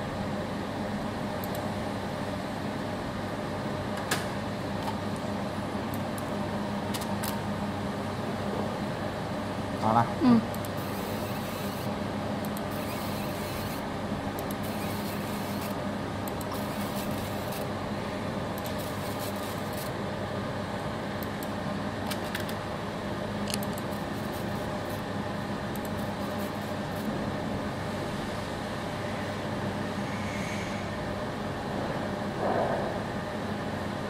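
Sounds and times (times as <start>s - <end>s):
cooling fan whirring hum: 0.0s - 34.0s.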